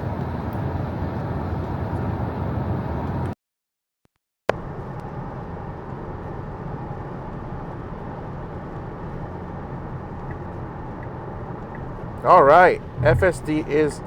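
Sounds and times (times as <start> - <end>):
road and tyre noise on wet road: 0.0 - 3.4, 4.5 - 14.0.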